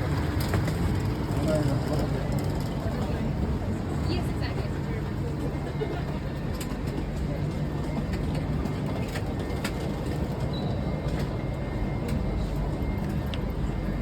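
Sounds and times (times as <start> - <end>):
high-speed train rumbling: 0.0 - 14.0.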